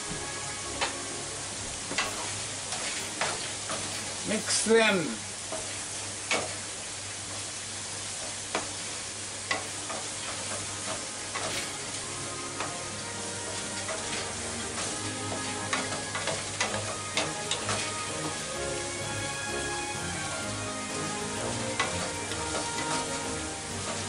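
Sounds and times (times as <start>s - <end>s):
faint background music: 0.0s - 6.9s, 9.5s - 24.0s
vegetables sizzling in a pan: 0.0s - 24.0s.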